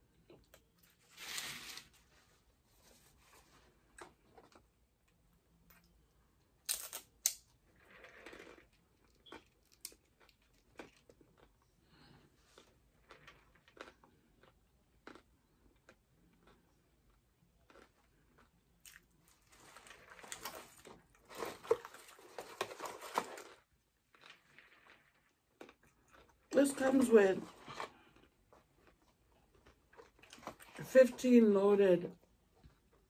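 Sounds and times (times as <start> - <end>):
crunching and chewing food: 3.3 - 31.0.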